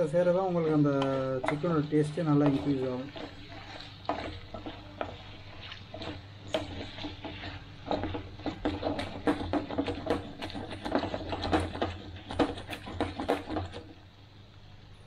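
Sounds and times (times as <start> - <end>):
spatula scraping metal pan: 0.0 - 13.9
food sizzling in pan: 0.0 - 14.8.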